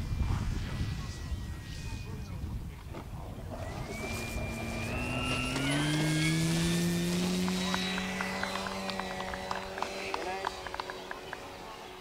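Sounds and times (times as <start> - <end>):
electric motor and propeller whine: 0.0 - 12.0.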